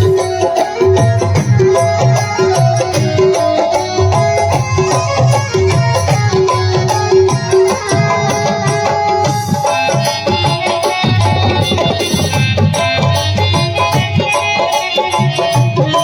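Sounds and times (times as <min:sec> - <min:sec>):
hand drum strokes: 0:00.0 - 0:16.0
sustained melodic tones: 0:00.0 - 0:16.0.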